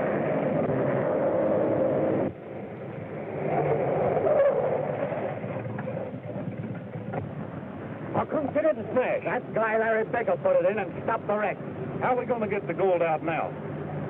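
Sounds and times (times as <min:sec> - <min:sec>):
quiet vehicle noise: 0:00.0 - 0:14.0
vehicle running: 0:00.0 - 0:14.0.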